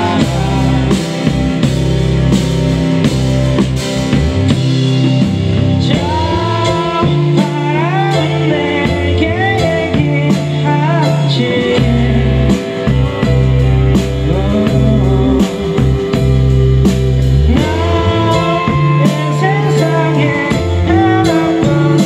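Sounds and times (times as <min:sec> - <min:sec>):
person singing: 0:00.0 - 0:01.7, 0:05.8 - 0:22.0
bass notes: 0:00.0 - 0:22.0
electric guitar: 0:00.0 - 0:22.0.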